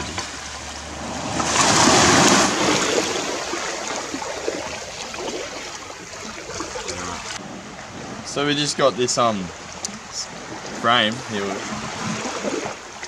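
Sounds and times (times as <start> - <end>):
small waves lapping: 0.0 - 13.0
water splashing and sloshing: 0.0 - 13.0.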